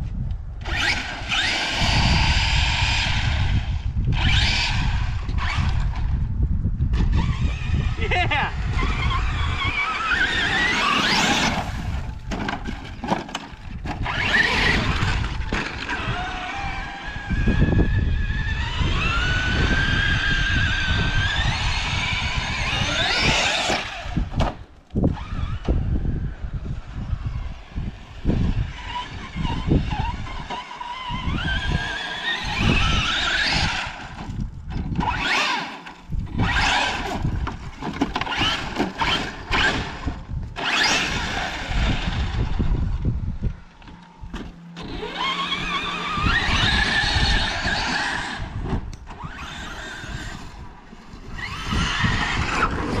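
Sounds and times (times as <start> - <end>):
tyres skidding on dirt: 0.6 - 3.5, 7.0 - 42.8, 43.6 - 53.0
remote-control car motor whining: 0.6 - 53.0.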